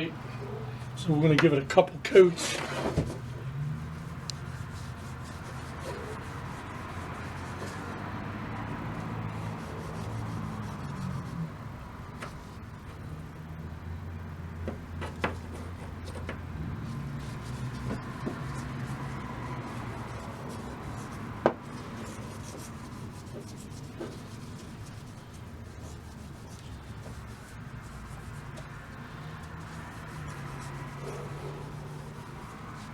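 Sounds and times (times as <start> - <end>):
rubbing strokes on wood: 2.1 - 11.6, 14.6 - 32.9.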